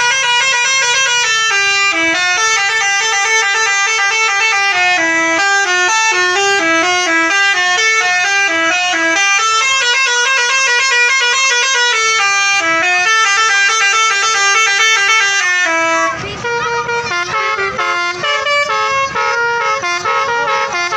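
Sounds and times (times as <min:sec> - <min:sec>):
multi-tone air horn tune: 0:00.0 - 0:20.9.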